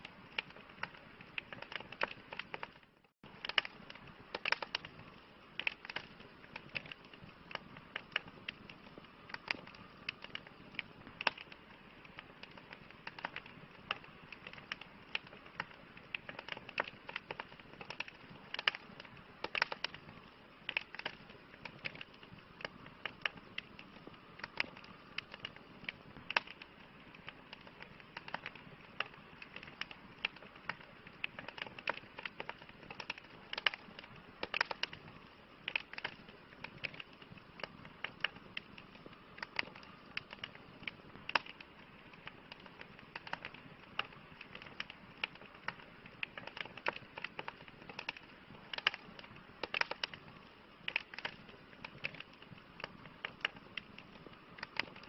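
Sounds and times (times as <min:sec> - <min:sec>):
campfire crackling and popping: 0:00.0 - 0:55.0
low hiss of burning: 0:00.0 - 0:55.0.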